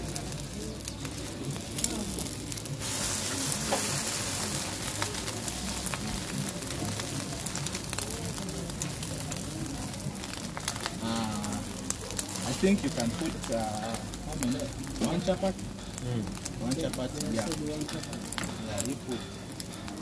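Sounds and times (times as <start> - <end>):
omelette sizzling on a griddle: 0.0 - 20.0.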